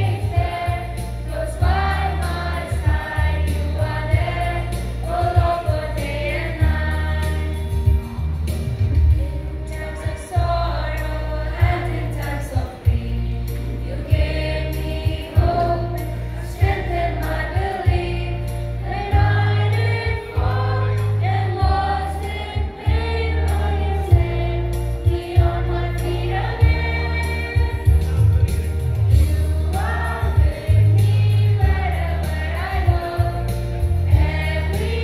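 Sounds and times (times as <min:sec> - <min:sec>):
mixed choir singing: 0:00.0 - 0:08.0, 0:09.6 - 0:28.5, 0:29.1 - 0:35.0
deep bass accompaniment: 0:00.0 - 0:35.0.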